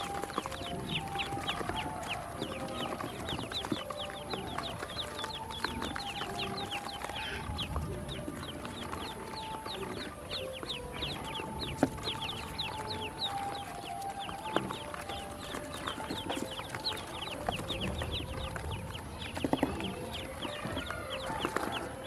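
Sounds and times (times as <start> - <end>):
ducklings peeping: 0.0 - 22.0.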